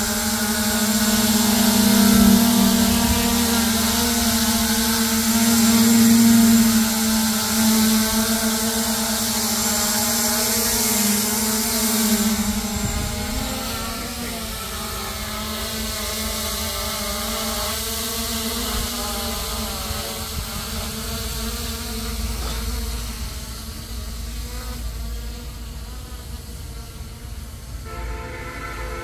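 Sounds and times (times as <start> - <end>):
drone propellers buzzing: 0.0 - 29.0.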